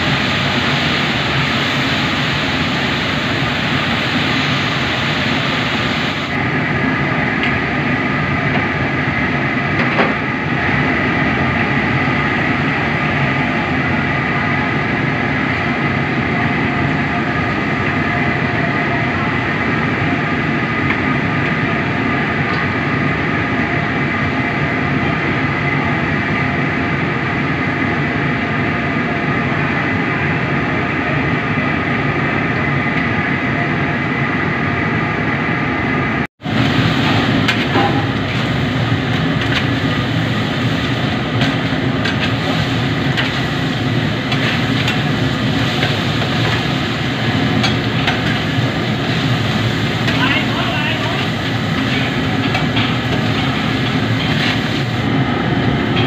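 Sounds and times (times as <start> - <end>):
oil frying and bubbling: 0.0 - 27.2, 36.4 - 56.0
gas burner roaring: 0.0 - 56.0.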